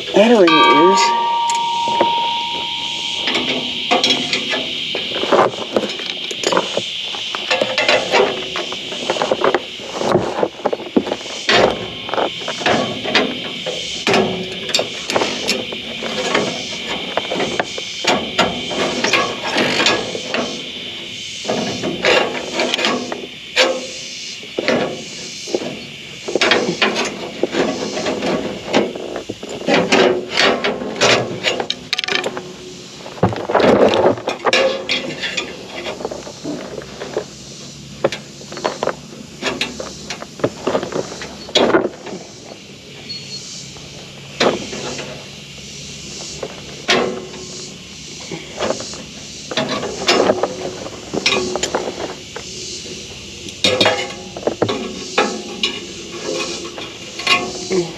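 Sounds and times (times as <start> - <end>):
hand tools clanking on metal: 0.0 - 6.8, 7.4 - 20.7, 21.4 - 24.0, 24.6 - 37.4, 46.4 - 57.9.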